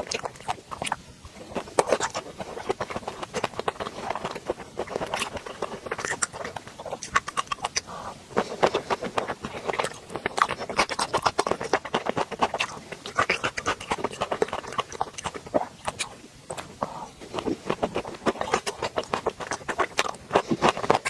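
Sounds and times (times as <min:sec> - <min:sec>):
wet chewing: 0:00.0 - 0:21.0.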